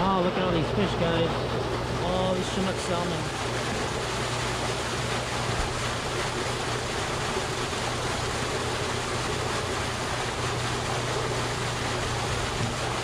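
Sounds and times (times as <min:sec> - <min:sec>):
water rushing and churning: 0:00.0 - 0:13.0.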